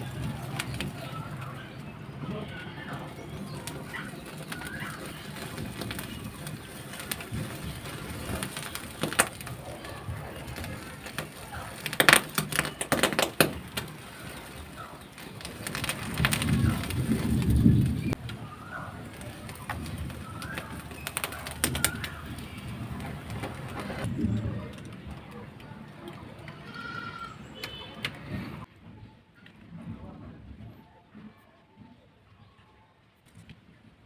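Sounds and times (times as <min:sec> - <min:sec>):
sharp clicks and crackles: 0:00.0 - 0:28.6.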